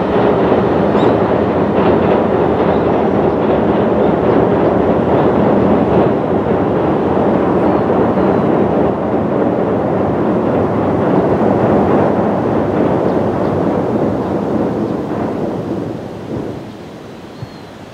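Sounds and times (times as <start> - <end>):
electric train crossing steel bridge: 0.0 - 17.9.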